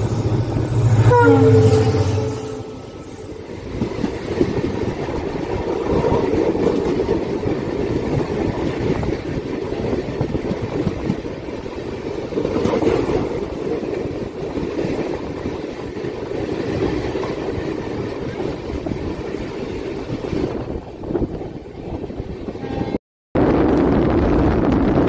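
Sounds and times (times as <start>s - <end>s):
train wheels rumbling on rails: 0.0s - 22.6s, 23.4s - 25.0s
wind on microphone: 3.3s - 25.0s.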